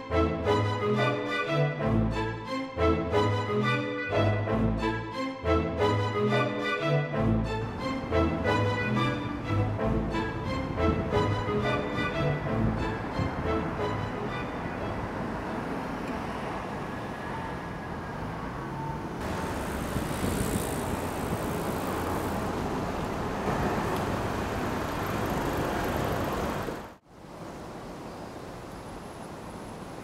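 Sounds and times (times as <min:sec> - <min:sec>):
city road traffic: 0:00.0 - 0:30.0.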